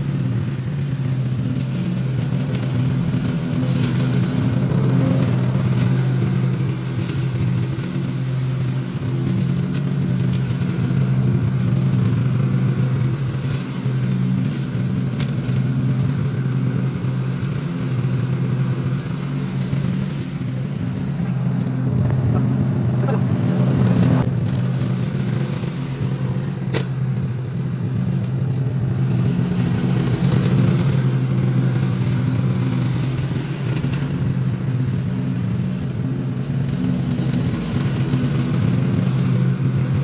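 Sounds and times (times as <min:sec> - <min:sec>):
mower engine running: 0:00.0 - 0:40.0.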